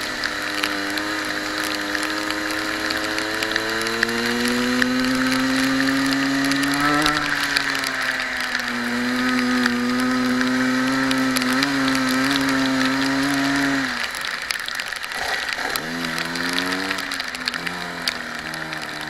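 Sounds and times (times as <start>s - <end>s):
kart engine at high revs: 0.0s - 19.0s
wind and tyre spray hiss: 0.0s - 19.0s.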